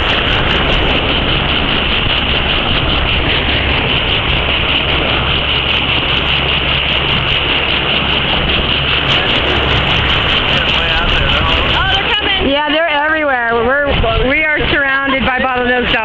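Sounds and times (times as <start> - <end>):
boat engine humming: 0.0 - 16.0
water wash: 0.0 - 16.0
wind noise: 0.0 - 16.0.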